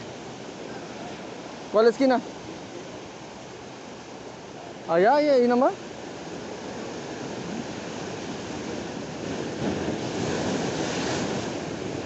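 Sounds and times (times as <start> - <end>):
ocean surf breaking over rocks: 0.0 - 12.0.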